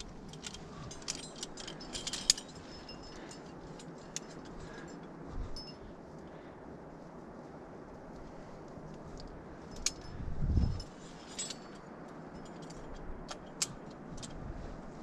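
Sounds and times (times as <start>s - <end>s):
carabiners clinking: 0.0s - 6.3s, 8.9s - 15.0s.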